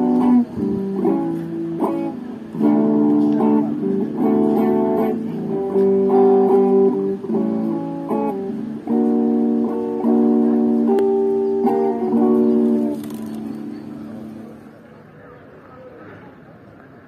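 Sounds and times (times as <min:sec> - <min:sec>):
clean electric guitar strumming chords: 0:00.0 - 0:14.7.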